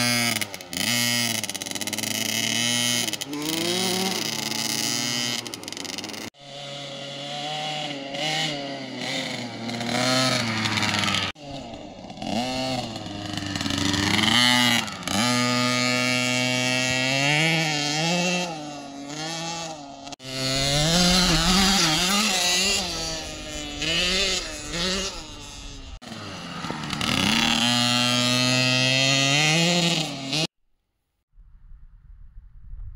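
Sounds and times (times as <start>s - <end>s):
dirt bike engine revving: 0.0s - 30.5s.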